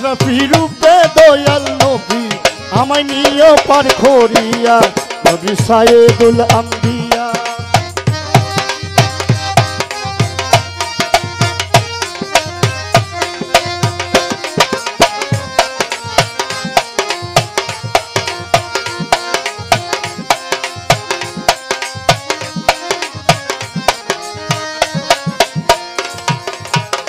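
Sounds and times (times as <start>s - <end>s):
fast hand-drum strokes: 0.0s - 27.0s
held melodic line: 0.0s - 27.0s.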